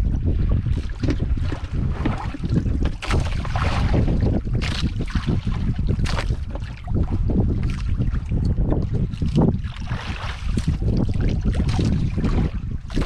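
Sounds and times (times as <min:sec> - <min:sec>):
water splashing against boat hull: 0:00.0 - 0:13.0
wind buffeting microphone: 0:00.0 - 0:13.0.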